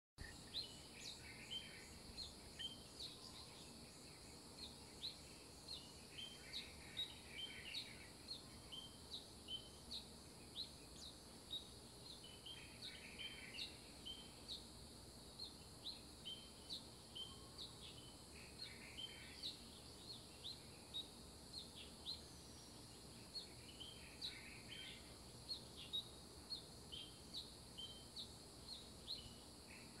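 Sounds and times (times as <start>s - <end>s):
birds chirping: 0.2s - 14.7s, 15.3s - 30.0s
faint steady hiss: 0.2s - 30.0s.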